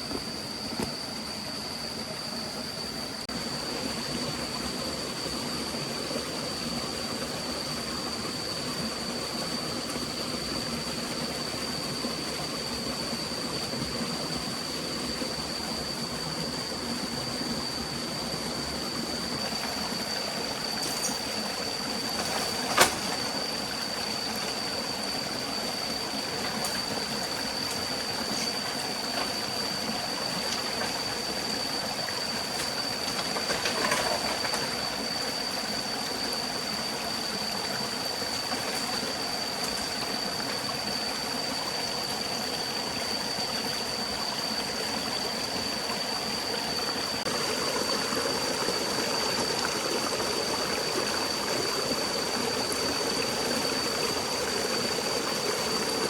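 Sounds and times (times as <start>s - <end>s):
flowing stream: 0.0s - 56.0s.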